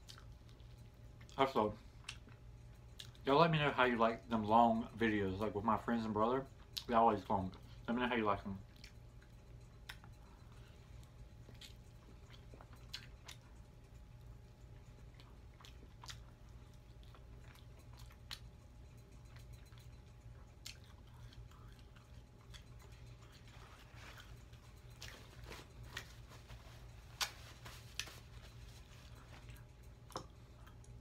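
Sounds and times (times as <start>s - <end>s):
chewing crispy fried chicken: 0.0s - 31.0s
steady low hum: 0.0s - 31.0s.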